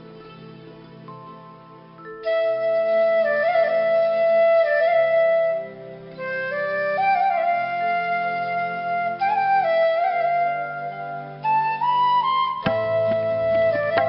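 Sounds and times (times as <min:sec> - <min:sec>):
slow flute melody: 0:00.0 - 0:14.0
soft sustained accompaniment: 0:00.0 - 0:14.0.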